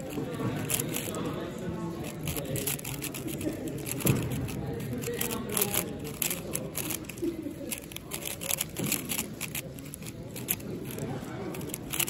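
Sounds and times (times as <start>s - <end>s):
puzzle cube clicking: 0.0s - 12.0s.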